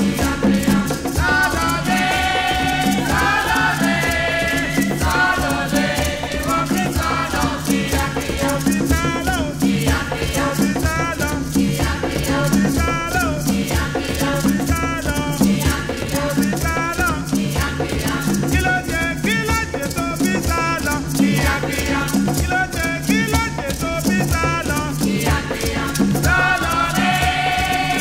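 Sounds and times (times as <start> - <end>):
shaker ticking fast: 0.0 - 28.0.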